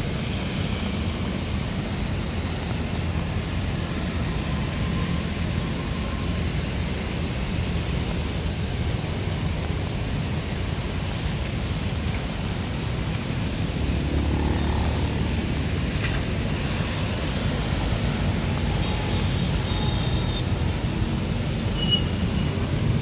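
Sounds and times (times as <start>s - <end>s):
city traffic rumble: 0.0s - 23.0s
rain hiss: 0.0s - 23.0s.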